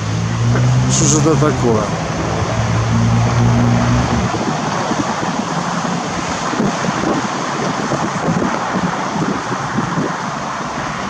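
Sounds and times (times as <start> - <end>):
city traffic: 0.0 - 11.0
low engine hum: 0.0 - 11.0
wind on microphone: 0.0 - 11.0.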